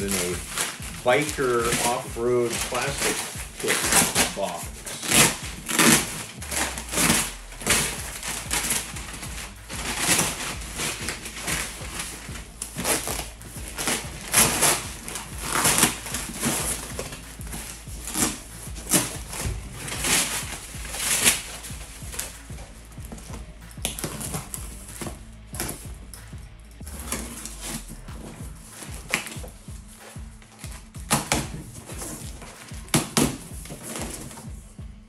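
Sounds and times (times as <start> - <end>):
knife cutting tape and cardboard: 0.0 - 25.9, 26.8 - 34.5.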